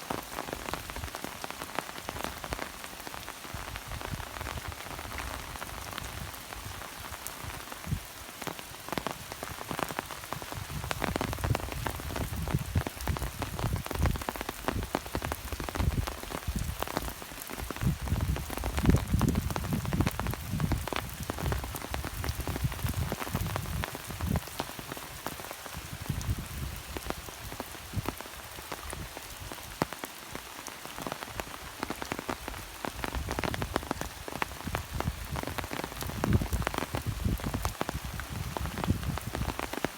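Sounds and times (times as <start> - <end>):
rain falling: 0.0 - 39.9
raindrops hitting a surface: 0.0 - 39.9.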